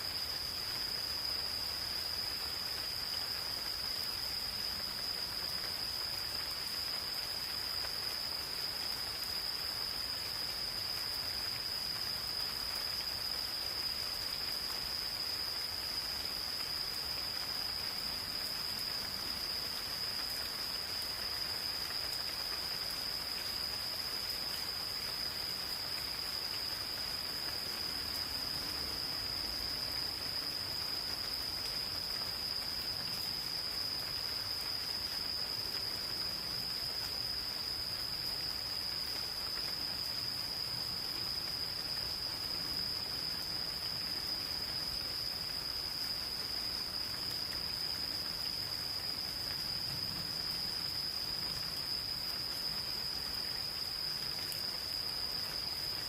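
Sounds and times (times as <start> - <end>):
gentle rain in forest: 0.0 - 56.0
insects trilling: 0.0 - 56.0.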